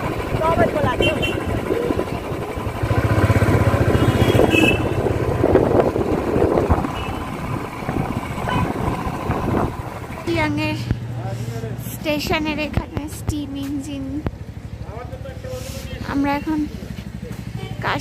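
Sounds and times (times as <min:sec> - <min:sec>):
busy street traffic: 0:00.0 - 0:18.0
vehicle engine running: 0:00.0 - 0:18.0.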